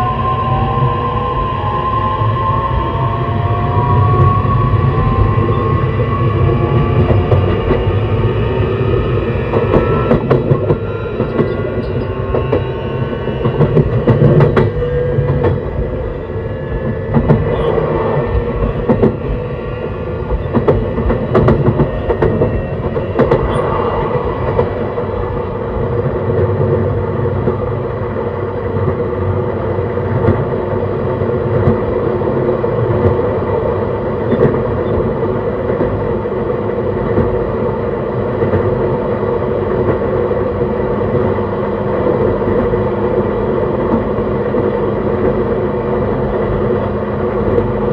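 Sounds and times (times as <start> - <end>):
train wheels rumbling on rail: 0.0 - 47.9
rail joint clicks: 4.0 - 47.9.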